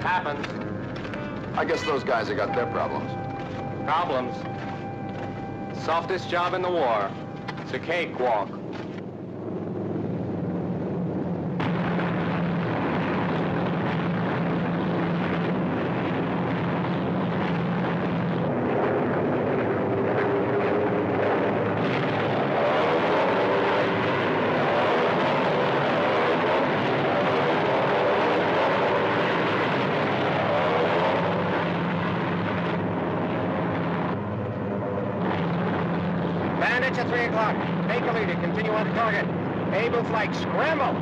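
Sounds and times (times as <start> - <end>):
propeller plane engines droning: 0.0 - 41.0.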